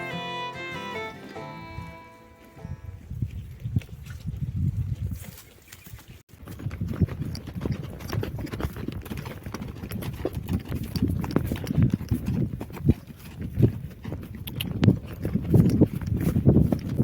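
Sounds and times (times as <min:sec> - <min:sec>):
horse hoofbeats: 0:00.0 - 0:17.0.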